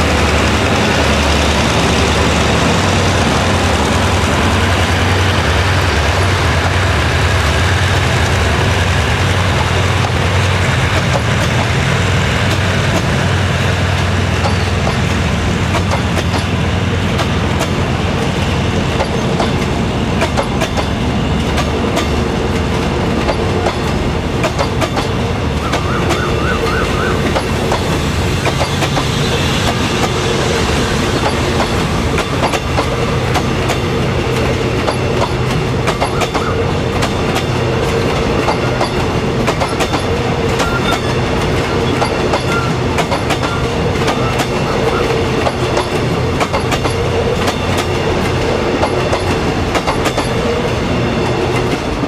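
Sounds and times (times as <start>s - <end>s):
steady train hum: 0.0s - 52.0s
train wheels clattering over rail joints: 7.9s - 52.0s.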